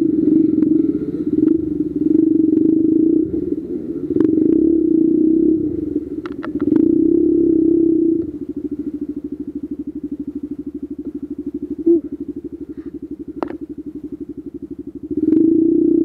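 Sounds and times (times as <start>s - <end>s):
dirt bike engine idling and revving: 0.0s - 16.0s.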